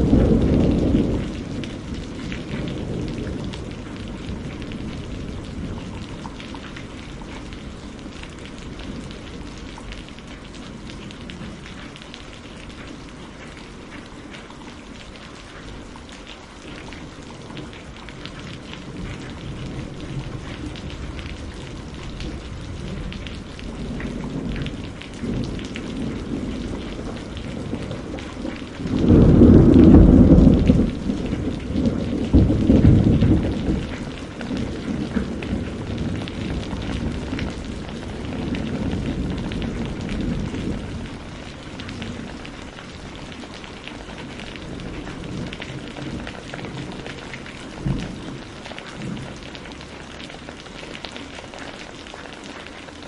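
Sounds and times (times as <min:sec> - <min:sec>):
rumbling thunder: 0:00.0 - 0:11.9, 0:16.9 - 0:50.5
steady rain: 0:00.0 - 0:53.0.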